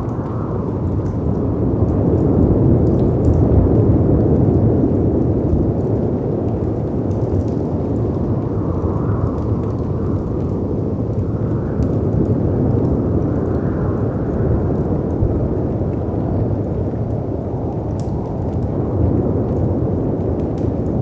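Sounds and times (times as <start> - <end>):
fireplace crackles: 0.0 - 21.0
wind: 0.0 - 21.0.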